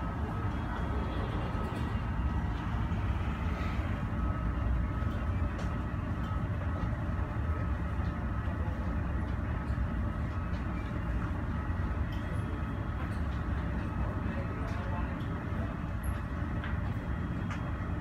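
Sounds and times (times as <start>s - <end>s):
low rumble of airport noise: 0.0s - 18.0s.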